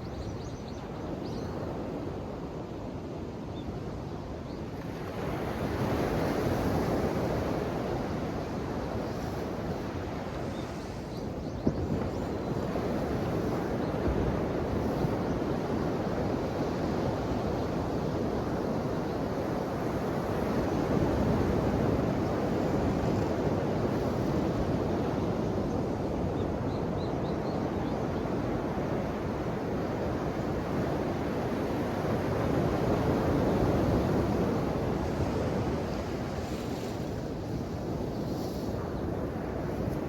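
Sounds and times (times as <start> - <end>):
ocean waves breaking on shore: 4.7 - 27.0, 28.0 - 40.0.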